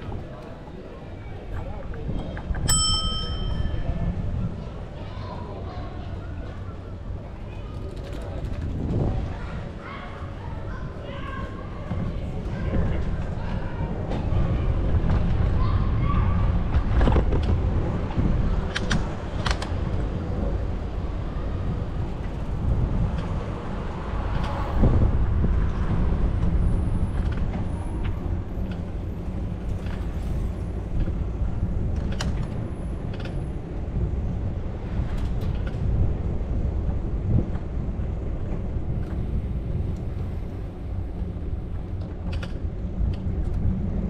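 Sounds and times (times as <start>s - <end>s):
city street traffic: 0.0s - 44.0s
wind rumble on microphone: 0.0s - 44.0s.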